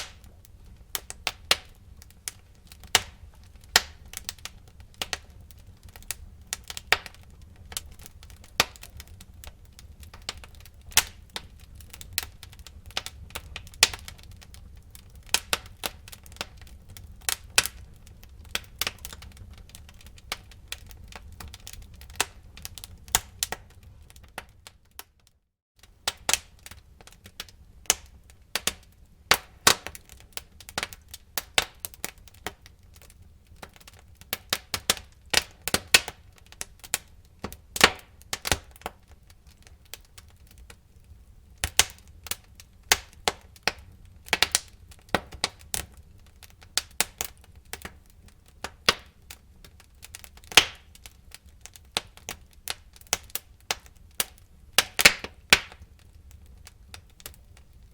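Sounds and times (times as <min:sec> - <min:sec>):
low rumble of flames: 0:00.0 - 0:25.1, 0:25.8 - 0:57.9
burning logs crackling and popping: 0:00.0 - 0:57.9.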